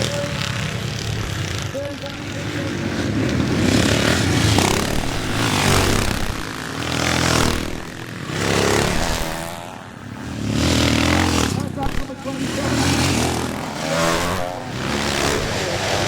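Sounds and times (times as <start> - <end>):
motocross bikes racing past: 0.0 - 16.0.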